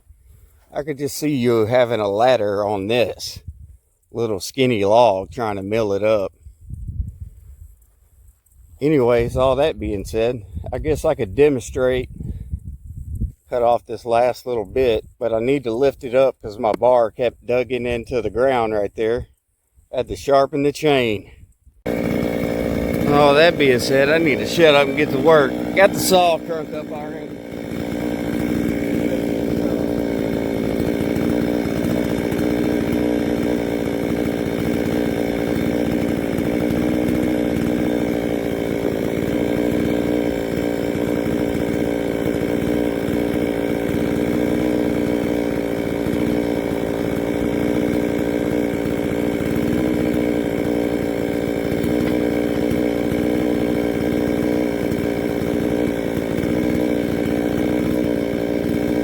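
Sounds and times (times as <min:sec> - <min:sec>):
chainsaw cutting through log: 0:00.4 - 0:03.4, 0:04.1 - 0:06.3, 0:13.6 - 0:19.3, 0:20.6 - 0:21.2, 0:21.9 - 0:59.0.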